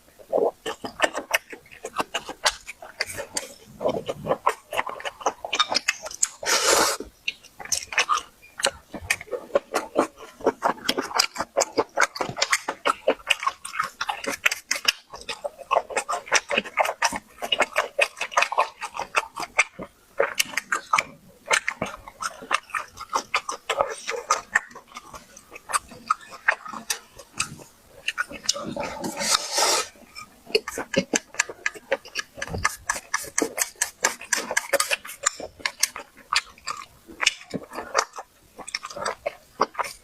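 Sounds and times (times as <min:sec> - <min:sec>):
chewing with wet lip smacking: 0:00.3 - 0:40.0.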